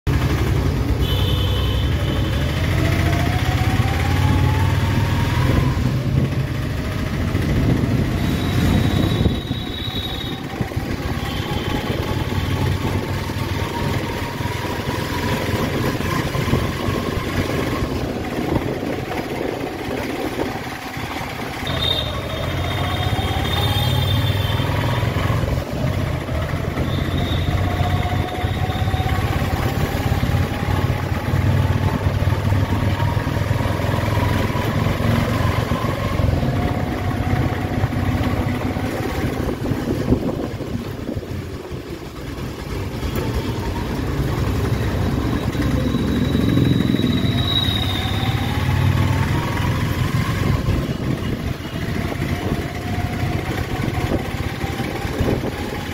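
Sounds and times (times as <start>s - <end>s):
traffic low rumble: 0.1s - 55.9s
vehicle engines accelerating: 0.1s - 55.9s.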